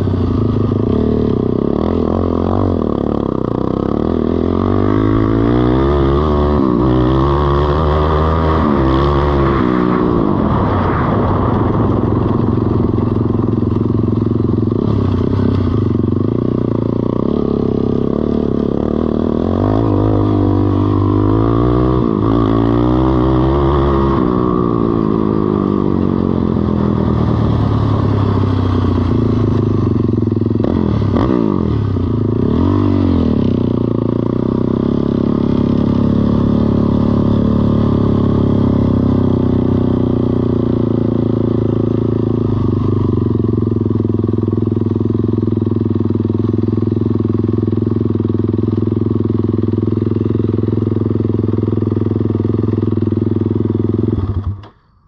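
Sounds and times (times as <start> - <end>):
atv engine revving: 0.0 - 54.8.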